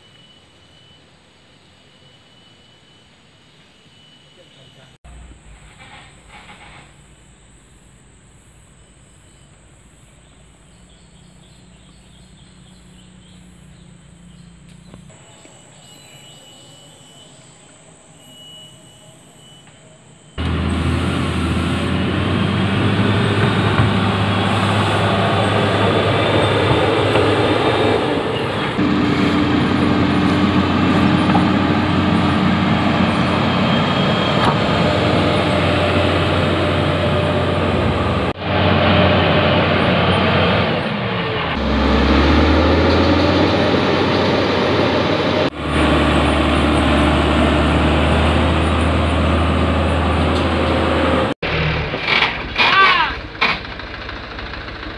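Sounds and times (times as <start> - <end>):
diesel engine running: 5.0 - 15.5, 20.4 - 54.9.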